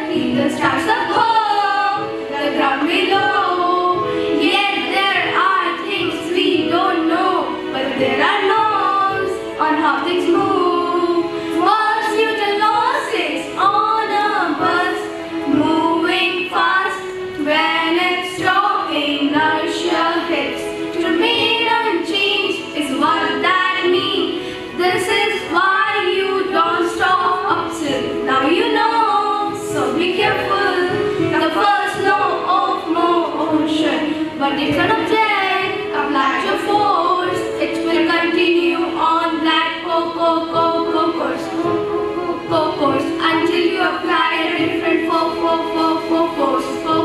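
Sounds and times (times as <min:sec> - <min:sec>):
children singing together: 0:00.0 - 0:47.0.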